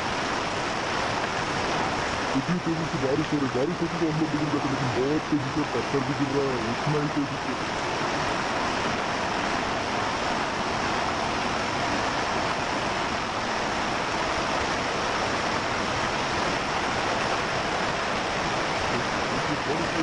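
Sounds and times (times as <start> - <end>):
heavy rain and hail: 0.0 - 20.0.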